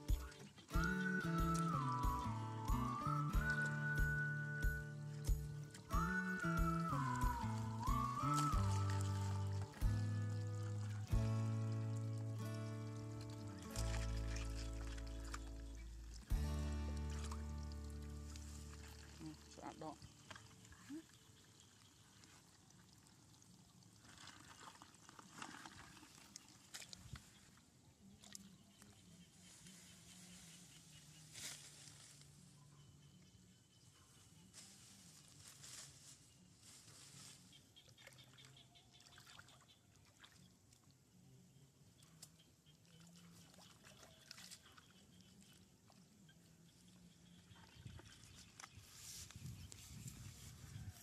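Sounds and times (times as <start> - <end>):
water trickling and splashing: 0.0 - 30.6, 36.6 - 51.0.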